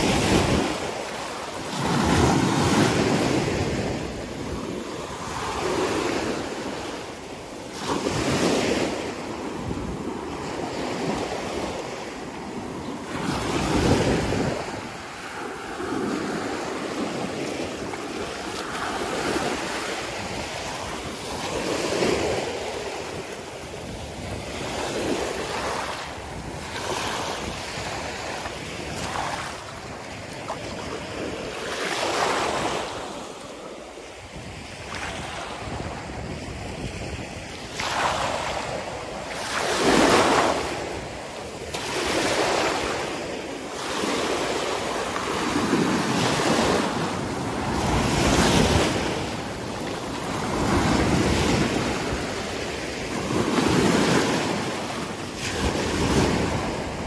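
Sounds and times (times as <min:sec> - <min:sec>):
sea waves breaking on sand: 0:00.0 - 0:57.0
wind buffeting microphone: 0:00.0 - 0:57.0.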